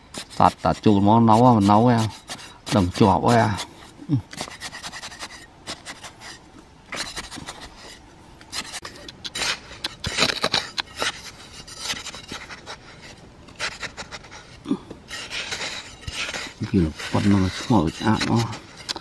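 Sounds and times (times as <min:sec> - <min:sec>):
hoe chopping sandy soil: 0:00.0 - 0:07.8, 0:08.5 - 0:19.0.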